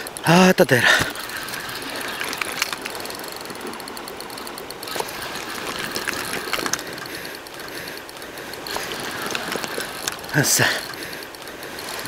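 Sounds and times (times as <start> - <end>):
fishing reel whirring: 0.0 - 12.0
reel clicks: 0.0 - 12.0.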